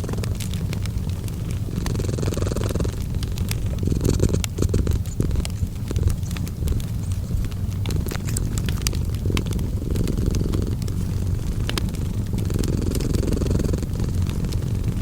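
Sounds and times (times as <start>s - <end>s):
cat purring: 0.0s - 15.0s
fireplace crackling: 0.0s - 15.0s.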